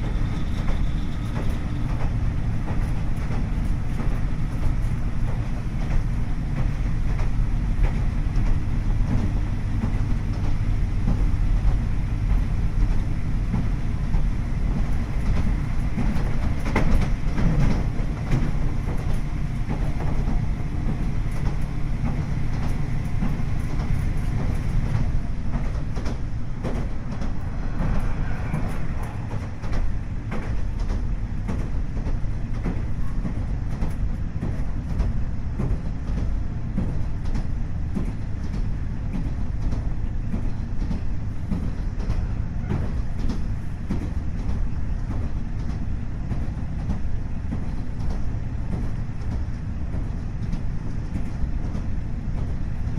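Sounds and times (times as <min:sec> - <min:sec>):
diesel engine drone: 0:00.0 - 0:52.9
rail joint clicks: 0:00.0 - 0:52.9
wheel and rail noise: 0:00.0 - 0:52.9.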